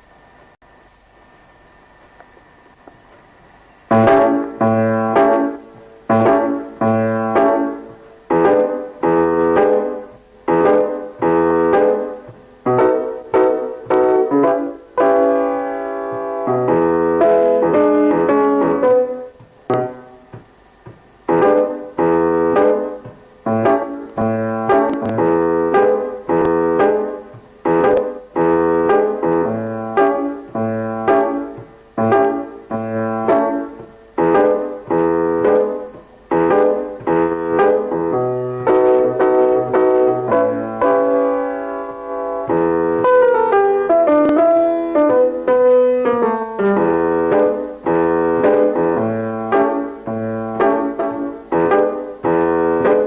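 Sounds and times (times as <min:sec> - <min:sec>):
piano chords ringing: 0:03.8 - 0:53.0.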